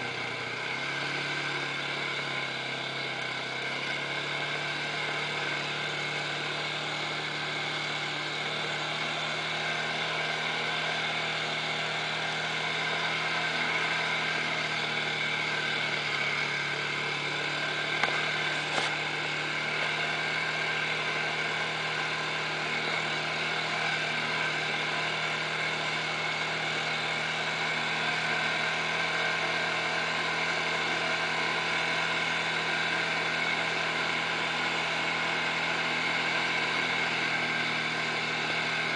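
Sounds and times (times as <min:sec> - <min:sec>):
quad engine droning: 0:00.0 - 0:38.9.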